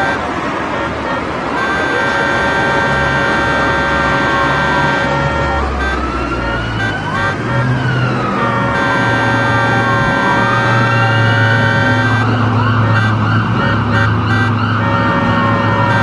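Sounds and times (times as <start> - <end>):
emergency siren wailing: 0.0 - 16.0
low traffic rumble: 0.0 - 16.0
steady held tones: 0.0 - 16.0.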